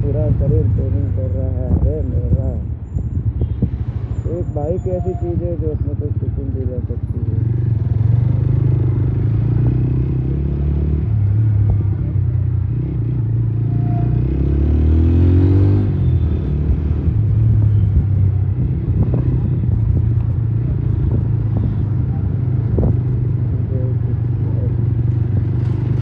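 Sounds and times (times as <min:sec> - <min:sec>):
road rumble: 0:00.0 - 0:26.0.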